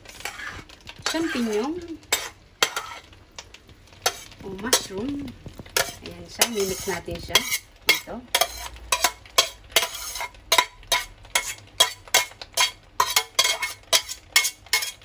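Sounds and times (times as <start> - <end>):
metal spoon scraping a pot: 0.0 - 3.2, 4.0 - 15.0.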